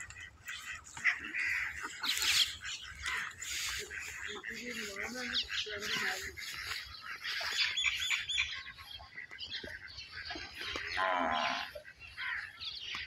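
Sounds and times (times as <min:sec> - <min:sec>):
drawn-out animal call: 0:00.0 - 0:12.8
small birds chirping: 0:00.0 - 0:13.0.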